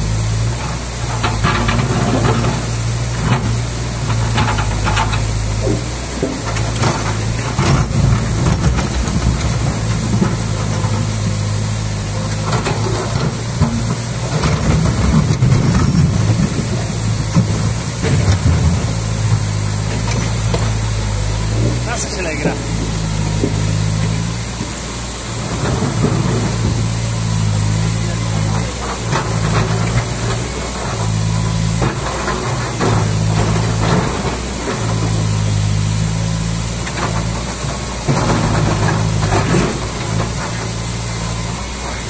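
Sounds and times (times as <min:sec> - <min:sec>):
excavator diesel engine running: 0:00.0 - 0:42.0
river water rushing over rocks: 0:00.0 - 0:42.0.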